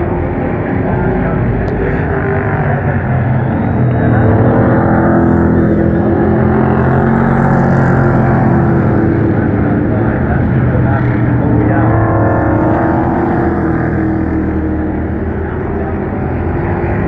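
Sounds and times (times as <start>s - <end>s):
race truck engines racing: 0.0s - 17.0s.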